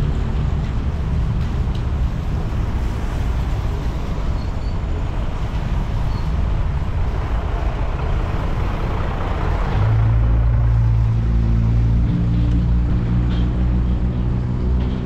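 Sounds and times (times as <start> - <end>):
city street traffic: 0.0 - 15.0
low engine drone: 0.0 - 15.0.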